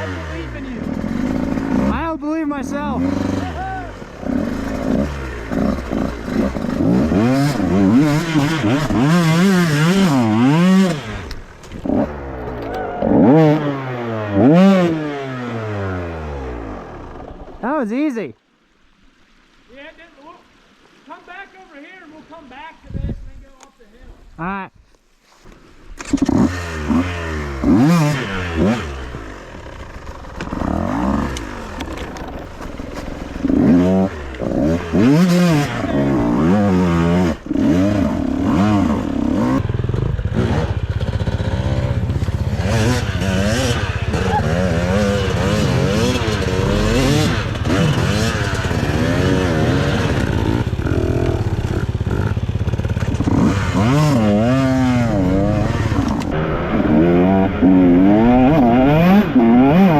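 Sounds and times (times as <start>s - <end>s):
dirt bike engine revving: 0.0s - 17.6s, 26.0s - 59.9s.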